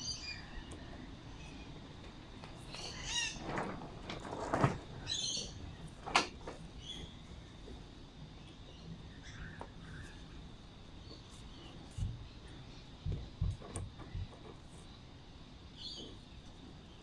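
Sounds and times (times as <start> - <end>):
birds chirping: 0.0 - 3.7, 4.4 - 17.0.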